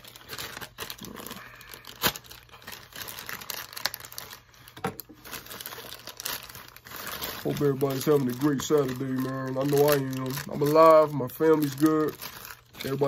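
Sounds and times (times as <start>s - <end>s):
soft crinkling rustle: 0.0s - 13.0s.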